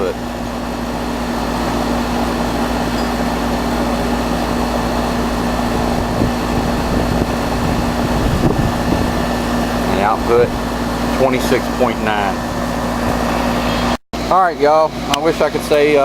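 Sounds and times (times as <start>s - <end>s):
condenser fan blowing: 0.0s - 16.0s
low compressor hum: 0.0s - 16.0s.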